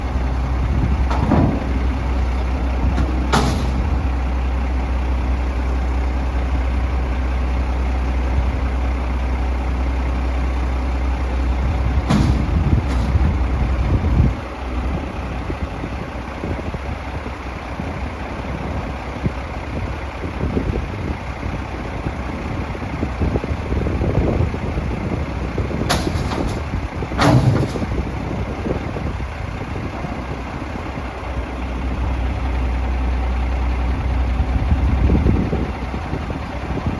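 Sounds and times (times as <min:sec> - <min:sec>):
garbage truck engine rumbling: 0:00.0 - 0:36.9.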